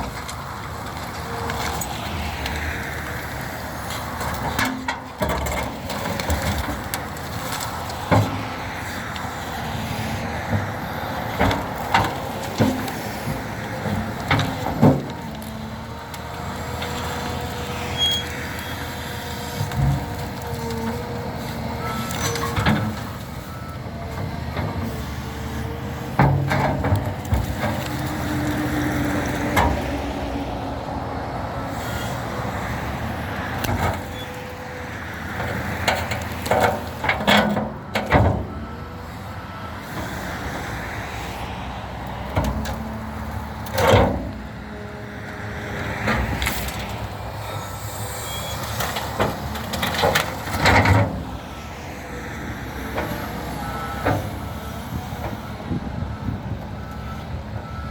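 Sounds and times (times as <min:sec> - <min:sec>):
loader engine running: 0:00.0 - 0:57.9.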